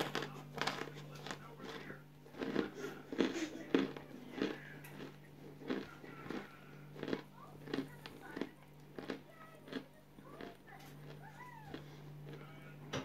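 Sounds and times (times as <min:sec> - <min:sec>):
chewing crunchy chunks: 0:00.0 - 0:13.0
steady low hum: 0:00.0 - 0:13.0.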